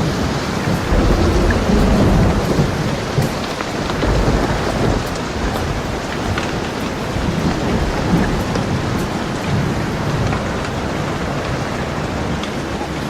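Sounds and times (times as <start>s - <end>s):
low thunder rumble: 0.0s - 13.0s
steady rain falling: 0.0s - 13.0s.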